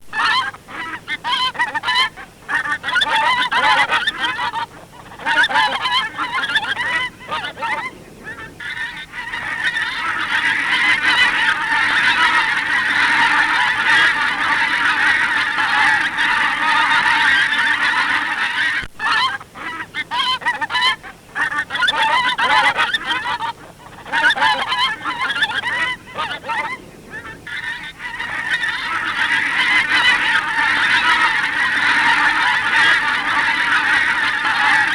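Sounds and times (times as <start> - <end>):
geese honking: 0.1 - 34.9.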